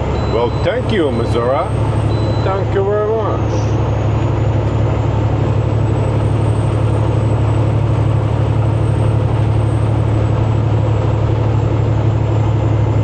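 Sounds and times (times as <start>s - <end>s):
truck engine droning in cab: 0.0s - 13.0s.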